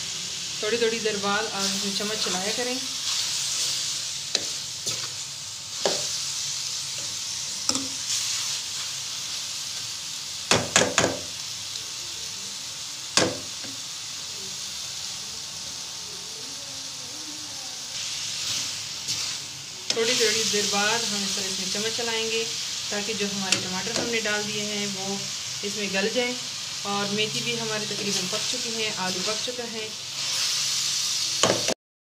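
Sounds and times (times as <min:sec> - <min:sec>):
vegetables sizzling in a metal pan: 0:00.0 - 0:31.8.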